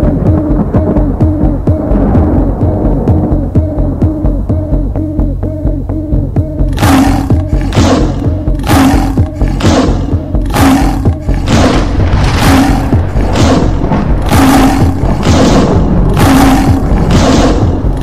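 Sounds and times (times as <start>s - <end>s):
electronic music with pulsing beat: 0.0s - 18.0s.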